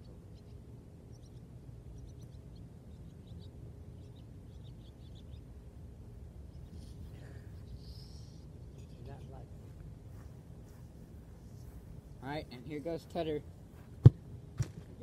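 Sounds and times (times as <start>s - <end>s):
birds chirping: 0.0s - 13.9s
low outdoor rumble: 0.0s - 15.0s.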